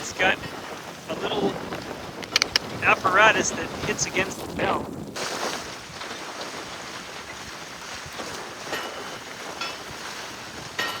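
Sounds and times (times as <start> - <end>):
wind and water rushing: 0.0 - 11.0.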